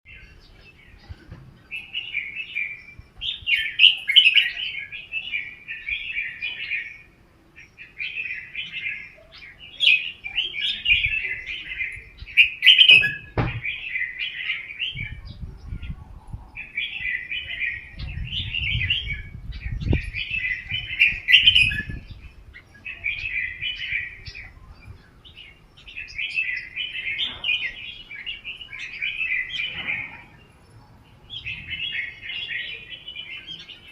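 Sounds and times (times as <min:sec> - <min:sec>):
bird singing short phrases: 0:00.1 - 0:33.9.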